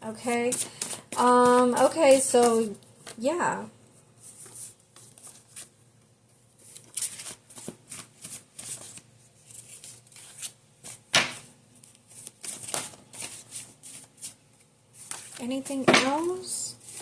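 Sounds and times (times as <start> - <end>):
cards being shuffled: 0.4 - 3.2, 4.2 - 5.7, 6.6 - 14.4, 15.0 - 17.0.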